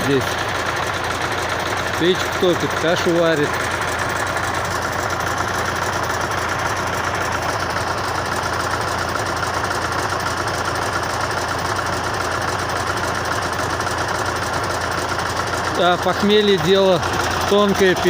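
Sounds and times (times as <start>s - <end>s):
engine idling with knocking: 0.0s - 18.0s.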